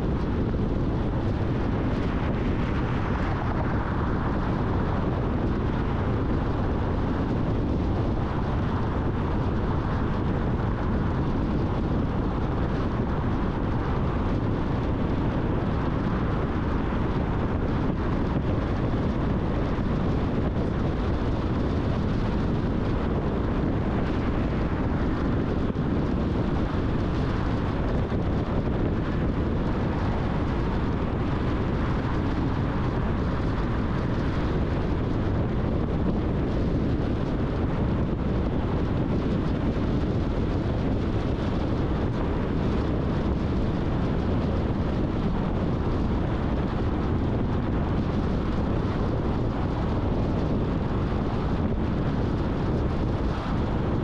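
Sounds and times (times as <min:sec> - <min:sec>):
car tyres and wind road noise: 0:00.0 - 0:54.0.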